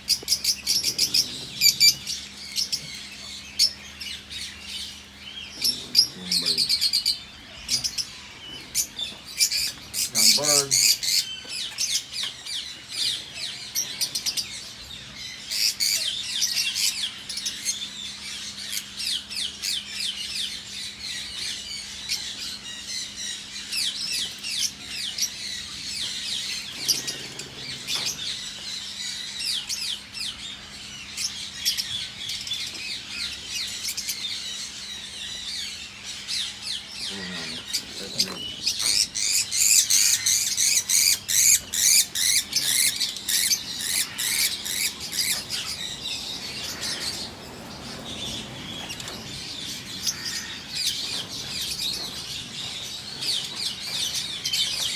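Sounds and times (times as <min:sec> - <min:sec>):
birds chattering: 0:00.0 - 0:54.9.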